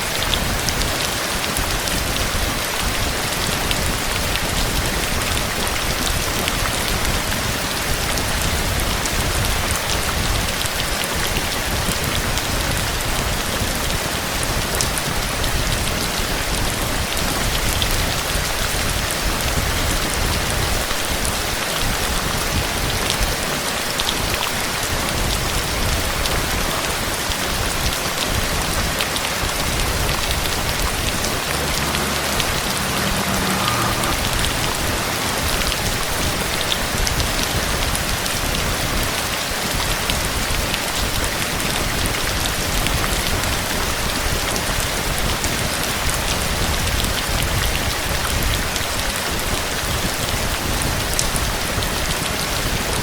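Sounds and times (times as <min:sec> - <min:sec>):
raindrops ticking on surfaces: 0:00.0 - 0:53.0
steady rain hiss: 0:00.0 - 0:53.0.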